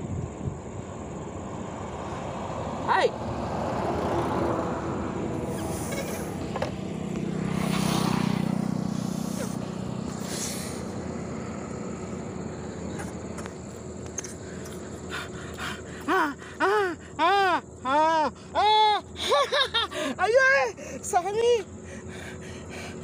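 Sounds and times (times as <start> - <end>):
roadside noise: 0.0 - 23.0
motor vehicle passing: 1.1 - 23.0.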